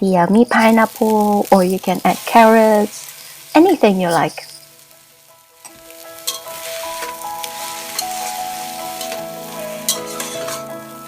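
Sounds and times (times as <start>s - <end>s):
spatula scraping a pan: 0.0s - 4.6s, 5.7s - 10.7s
rice sizzling in a hot pan: 0.0s - 11.0s
soft background music: 0.0s - 11.0s.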